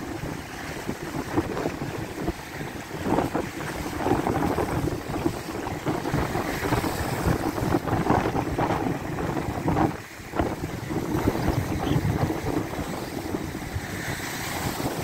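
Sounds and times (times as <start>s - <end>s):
surf crashing against seawall: 0.0s - 15.0s
water washing over concrete: 0.0s - 15.0s
wind rumbling on microphone: 0.0s - 15.0s.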